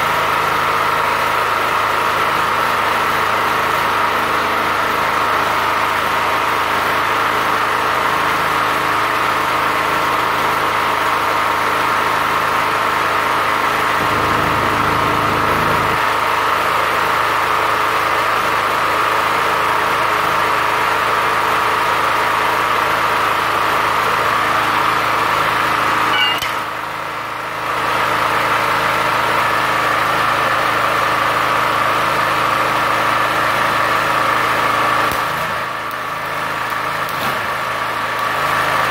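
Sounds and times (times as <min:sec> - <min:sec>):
generator running: 0:00.0 - 0:38.9.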